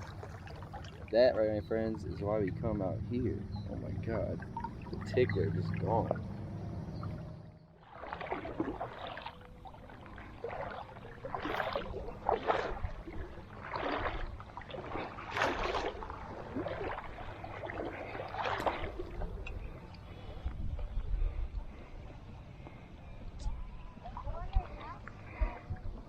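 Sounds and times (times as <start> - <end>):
footsteps wading through water: 0.0 - 26.0.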